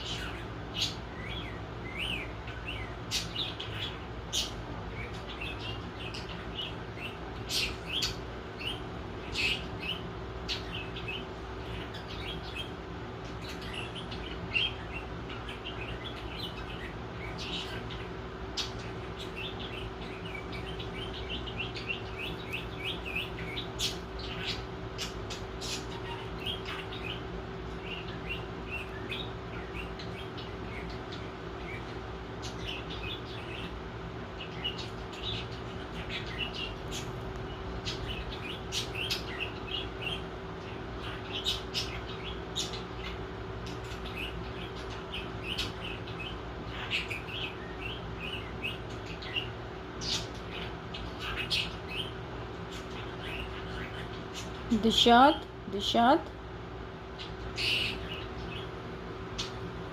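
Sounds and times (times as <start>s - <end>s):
small birds chirping: 0.0s - 59.9s
steady low hum: 0.0s - 59.9s.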